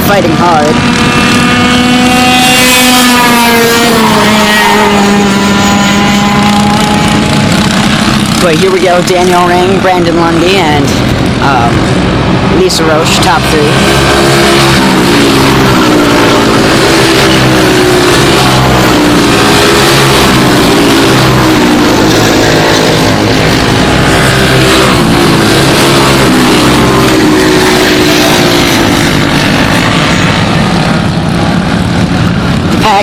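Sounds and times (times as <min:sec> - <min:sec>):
racing kart engines revving: 0:00.0 - 0:33.0.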